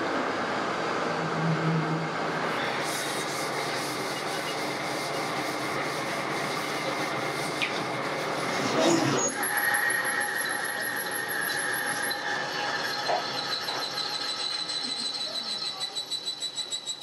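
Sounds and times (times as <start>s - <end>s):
rushing workshop noise: 0.0s - 17.0s
steady high whine: 0.0s - 17.0s.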